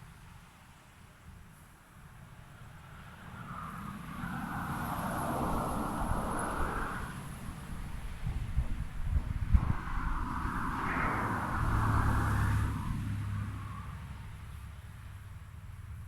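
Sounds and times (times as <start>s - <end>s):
car passing by: 2.8s - 16.0s.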